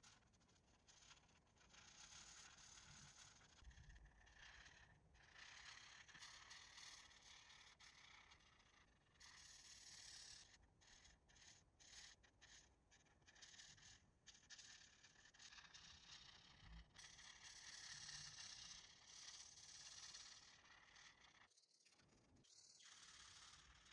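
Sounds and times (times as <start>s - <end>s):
marker scratching on paper: 0.0s - 23.9s.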